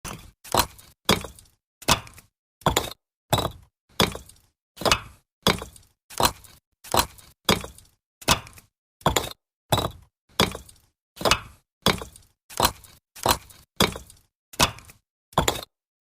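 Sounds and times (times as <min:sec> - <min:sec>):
brick-on-brick knock: 0:00.0 - 0:15.7
gritty brick scrape: 0:00.0 - 0:15.7.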